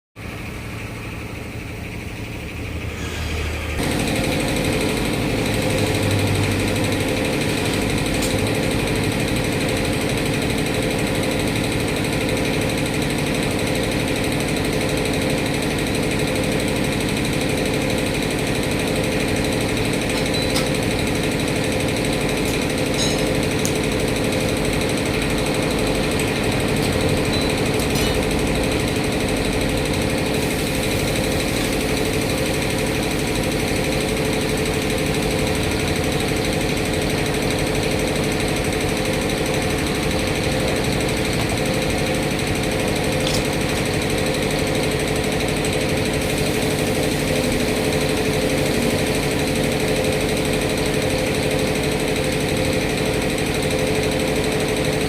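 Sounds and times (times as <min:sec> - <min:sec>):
machine rattling: 0:03.8 - 0:55.0.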